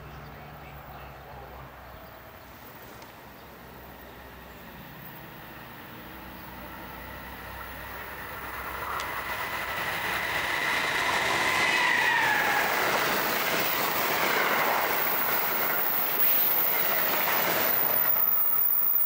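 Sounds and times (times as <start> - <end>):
rushing noise of passing coaches: 0.0 - 19.0
electric locomotive whine: 1.4 - 19.0.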